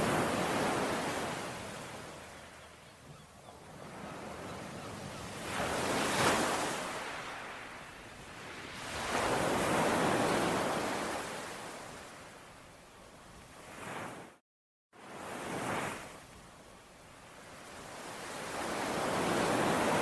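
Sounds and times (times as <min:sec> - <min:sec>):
ocean waves breaking on shore: 0:00.0 - 0:12.7, 0:13.3 - 0:14.4, 0:15.0 - 0:20.0.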